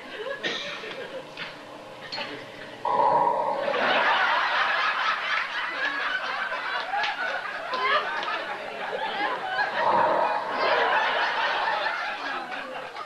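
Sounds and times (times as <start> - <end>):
crowd laughing: 0.0 - 1.5, 3.6 - 13.0.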